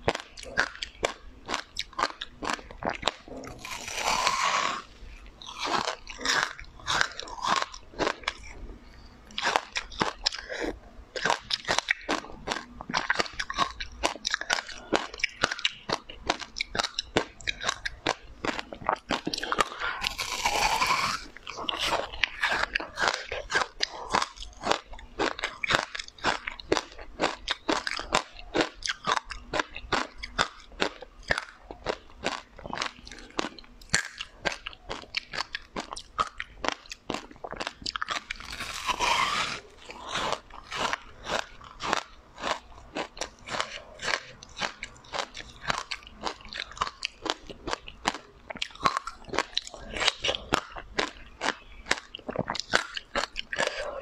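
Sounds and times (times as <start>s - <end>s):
crunchy chewing: 0.0s - 54.0s
loud crunchy bites: 0.1s - 8.6s, 9.3s - 54.0s.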